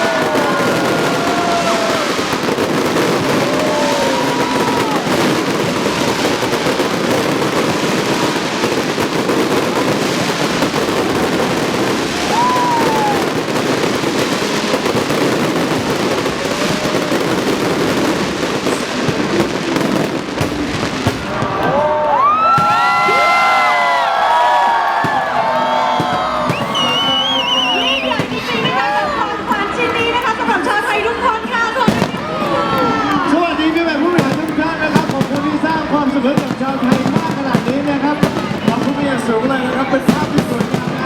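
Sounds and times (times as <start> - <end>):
crowd cheering: 0.0 - 41.0
fireworks bangs and crackling: 0.0 - 41.0.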